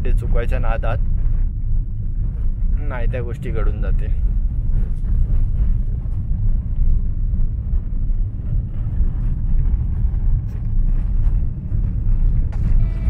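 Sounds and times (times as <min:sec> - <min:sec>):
tyre and suspension rumble: 0:00.0 - 0:13.0.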